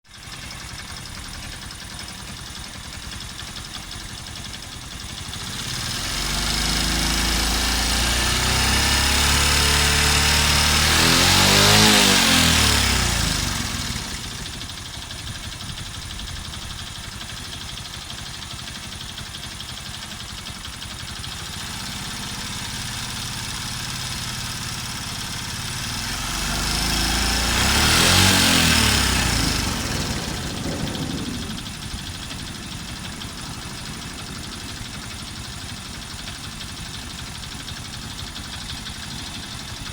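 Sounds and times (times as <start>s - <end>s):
small motorcycle engine running: 0.1s - 39.9s.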